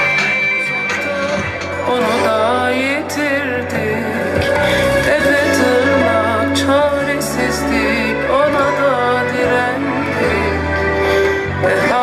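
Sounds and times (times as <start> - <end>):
ornamented melody over drone: 0.0 - 12.0.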